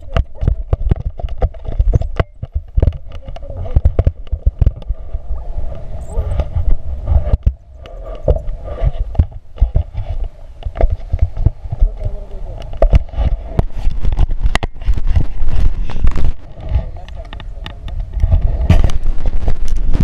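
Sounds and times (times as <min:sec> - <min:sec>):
knocks and thumps: 0:00.0 - 0:05.1, 0:05.7 - 0:20.0
wind rumbling on microphone: 0:00.0 - 0:20.0.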